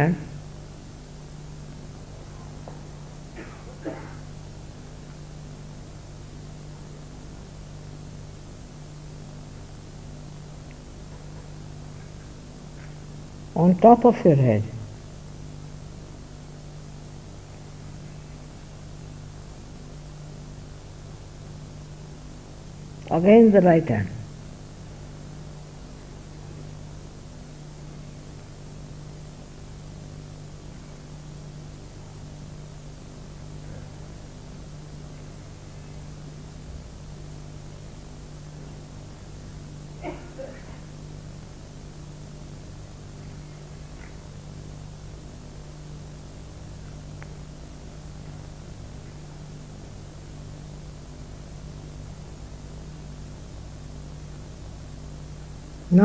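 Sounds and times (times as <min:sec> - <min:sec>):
low electrical hum: 0:00.0 - 0:56.0
steady hiss: 0:00.0 - 0:56.0.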